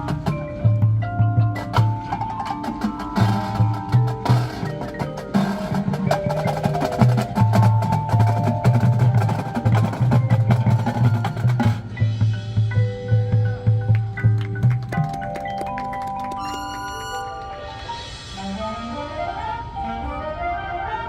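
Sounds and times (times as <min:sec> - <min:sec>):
drums: 0:00.0 - 0:21.0
marching band playing: 0:00.0 - 0:21.0.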